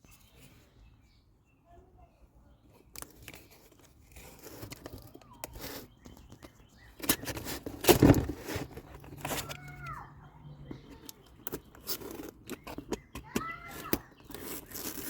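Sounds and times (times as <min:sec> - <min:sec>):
rustling and clattering handling: 0:02.7 - 0:15.0.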